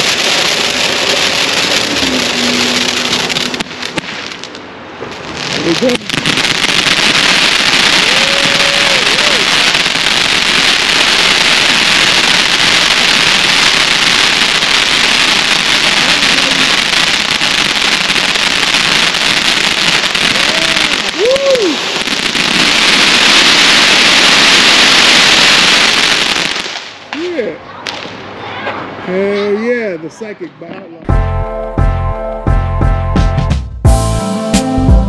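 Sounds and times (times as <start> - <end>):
fireworks fountain hissing sparks: 0.0 - 29.0.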